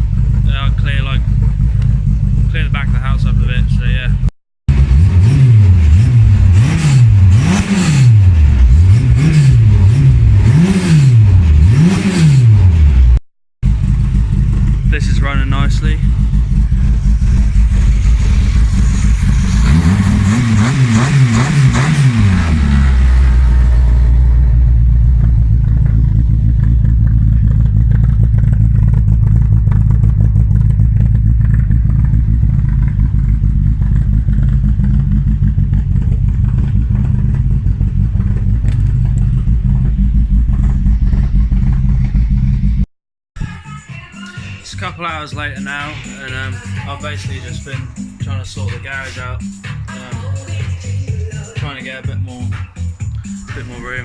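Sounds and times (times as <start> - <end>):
car engine revving and idling: 0.0 - 42.9, 44.7 - 54.0.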